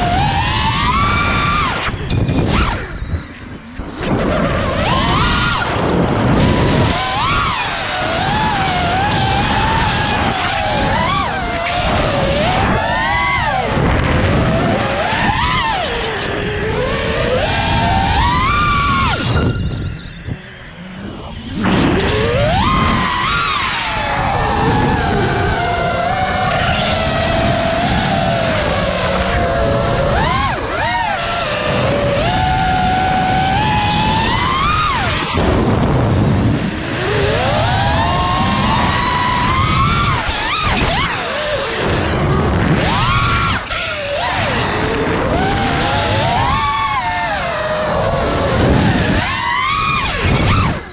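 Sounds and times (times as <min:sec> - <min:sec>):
drone motors whining: 0:00.0 - 0:50.9
wind rushing over microphone: 0:00.0 - 0:50.9.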